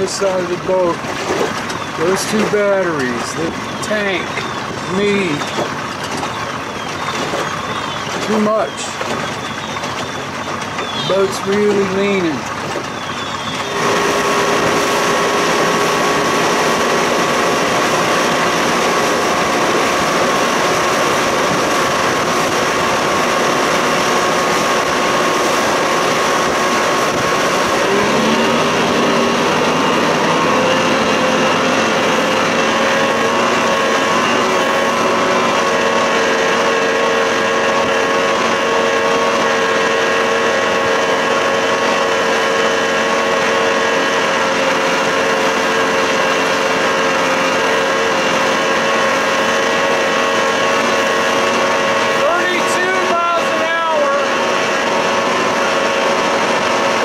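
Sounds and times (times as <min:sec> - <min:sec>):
outboard motor running: 0:00.0 - 0:57.0.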